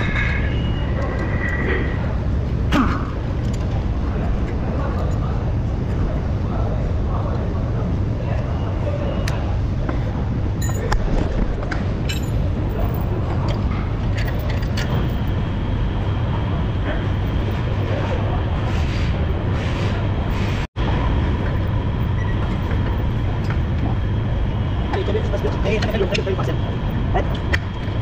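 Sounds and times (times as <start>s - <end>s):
low workshop rumble: 0.0s - 28.0s.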